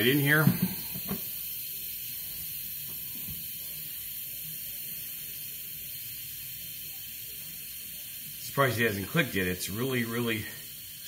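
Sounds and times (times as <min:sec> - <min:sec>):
pressure cooker steam hissing: 0:00.0 - 0:11.0.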